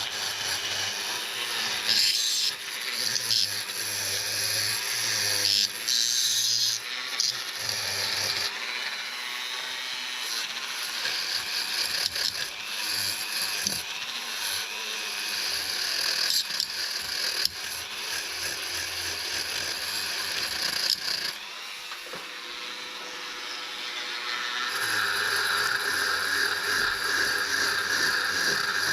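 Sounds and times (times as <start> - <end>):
tool scraping metal: 0.0 - 28.9.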